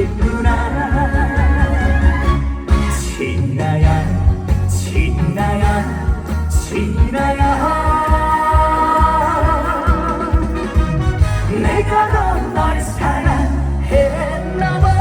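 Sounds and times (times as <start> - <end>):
live band playing a steady beat: 0.0 - 15.0
person singing: 0.0 - 15.0.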